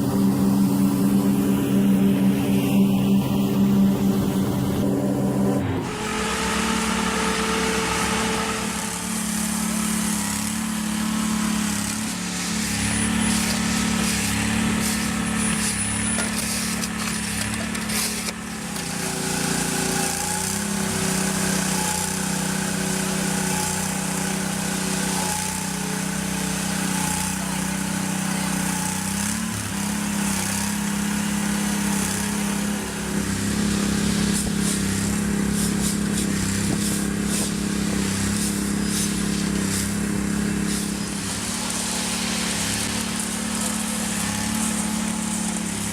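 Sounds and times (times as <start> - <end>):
heavy machinery engines running: 0.0 - 45.9.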